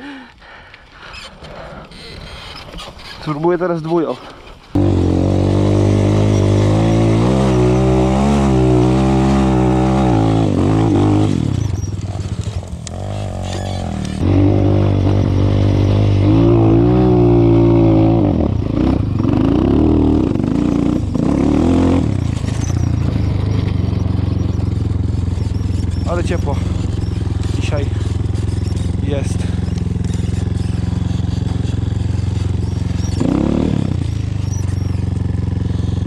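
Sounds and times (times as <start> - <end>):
motorcycle engine revving: 4.7 - 36.0.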